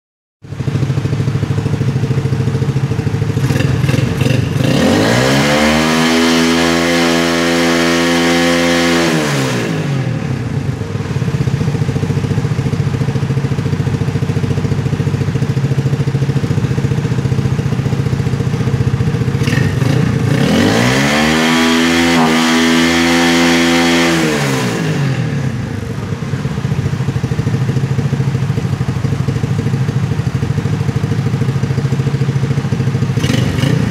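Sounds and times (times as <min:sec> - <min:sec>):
motorcycle engine idling and revving: 0:00.4 - 0:33.9.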